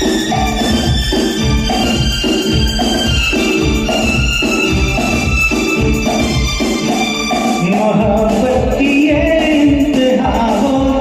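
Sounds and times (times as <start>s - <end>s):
instrumental film song backing music: 0.0s - 11.0s.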